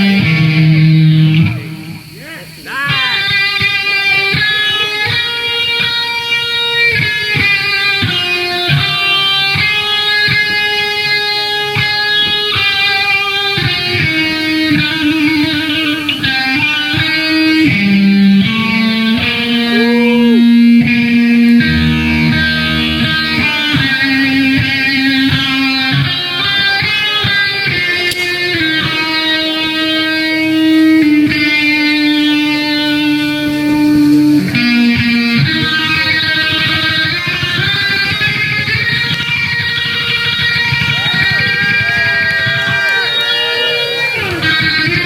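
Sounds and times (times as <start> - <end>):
electric guitar music with beat: 0.0 - 45.0.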